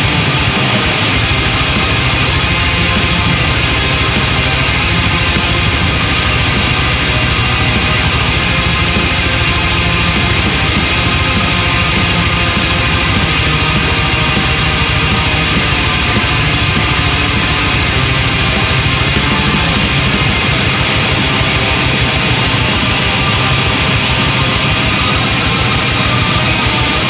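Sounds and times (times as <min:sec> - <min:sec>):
distorted electric guitars: 0:00.0 - 0:27.0
drums: 0:00.0 - 0:27.0
heavy metal music: 0:00.0 - 0:27.0.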